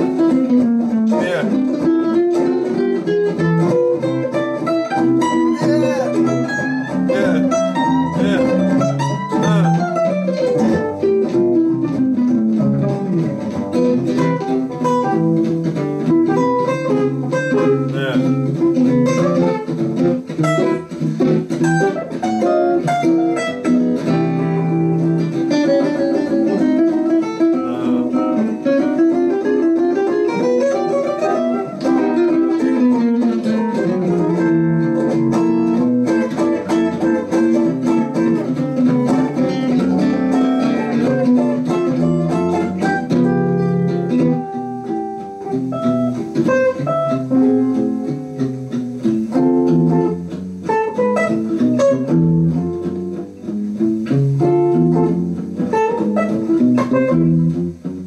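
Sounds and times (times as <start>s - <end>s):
jazz guitar comping chords: 0.0s - 58.0s
jazz guitar single-note runs: 0.0s - 58.0s.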